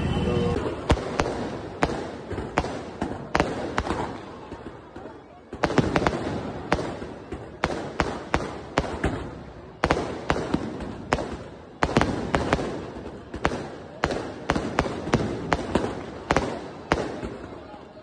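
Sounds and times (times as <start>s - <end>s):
fireworks crackling: 0.0s - 18.0s
fireworks bangs and pops: 0.1s - 18.0s.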